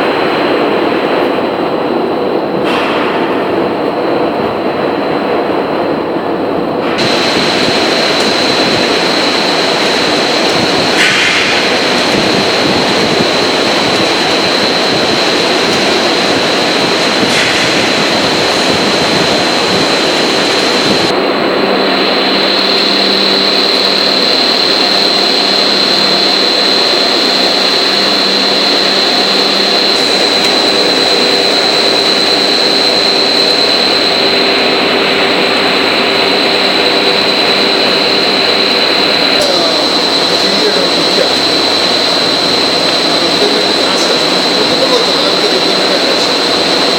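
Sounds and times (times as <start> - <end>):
high-pitched machine whine: 0.0 - 46.9
loud steady machine noise: 0.0 - 46.9.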